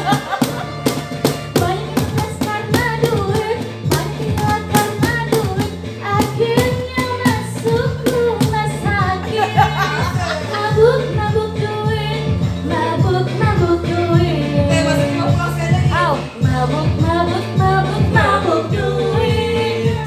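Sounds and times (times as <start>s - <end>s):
pop song with beat and bass: 0.0s - 20.0s
woman singing: 1.5s - 20.0s.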